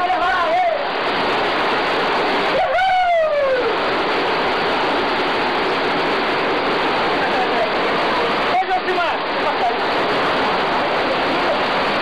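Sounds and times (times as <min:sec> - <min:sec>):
rush of falling water: 0:00.0 - 0:12.0.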